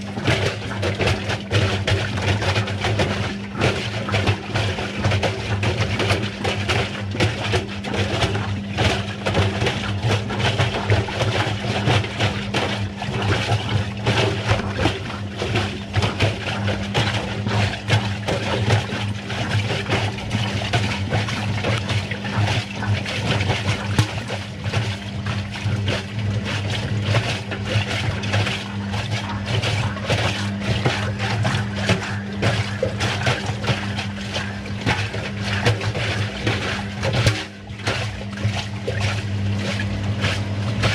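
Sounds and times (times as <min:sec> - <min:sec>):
washing machine motor hum: 0:00.0 - 0:40.9
water sloshing in drum: 0:00.0 - 0:40.9.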